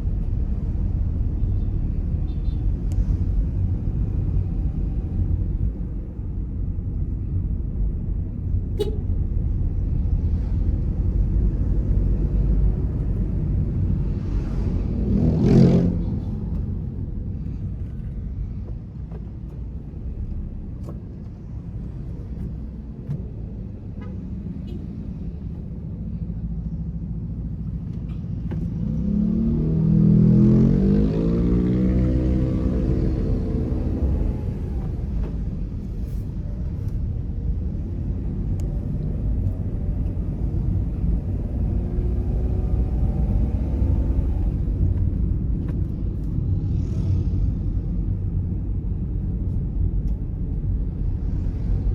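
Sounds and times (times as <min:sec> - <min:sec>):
car engine and tyre noise: 0:00.0 - 0:51.9.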